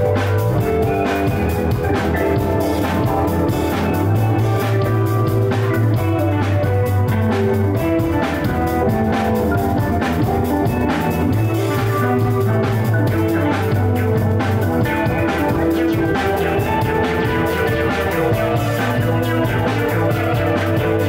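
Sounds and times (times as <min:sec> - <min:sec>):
drum kit: 0:00.0 - 0:21.0
electric guitar: 0:00.0 - 0:21.0
keyboards: 0:00.0 - 0:21.0.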